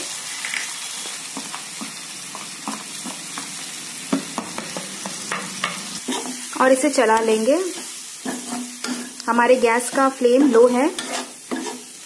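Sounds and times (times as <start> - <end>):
peas sizzling in oil: 0.0 - 12.0.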